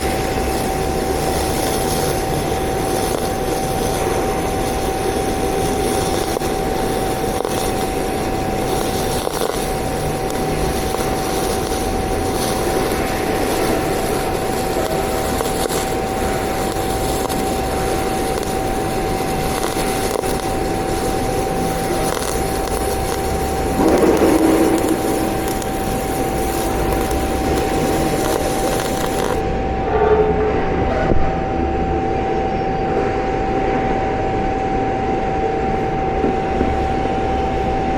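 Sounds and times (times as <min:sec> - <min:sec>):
welding arc hissing: 0:00.0 - 0:29.7, 0:35.7 - 0:37.9.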